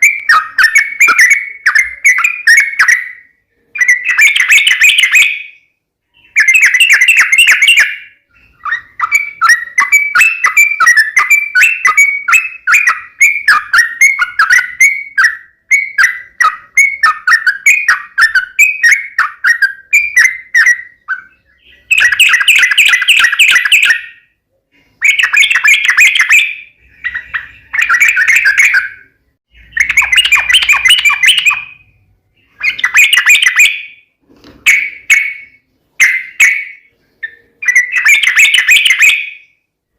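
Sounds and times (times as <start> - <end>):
bird singing harsh chattering phrases: 0.0 - 39.7.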